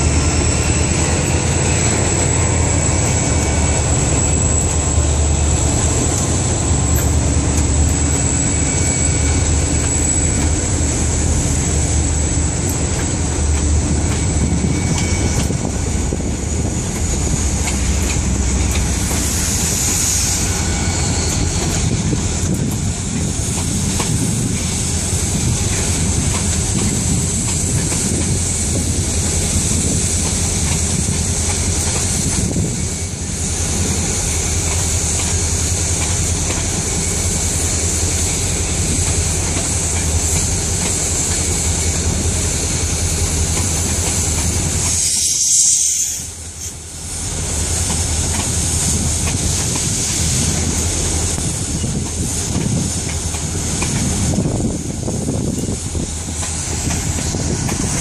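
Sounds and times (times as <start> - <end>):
diesel locomotives rumbling: 0.0 - 58.0.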